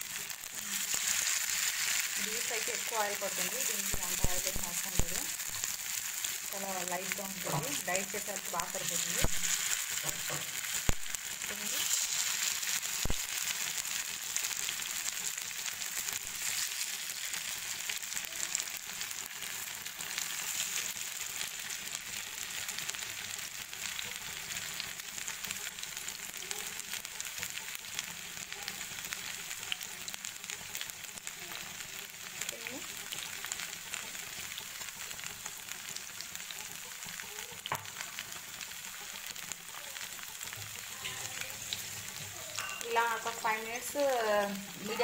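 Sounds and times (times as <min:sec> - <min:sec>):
chicken sizzling in oil: 0:00.0 - 0:45.0.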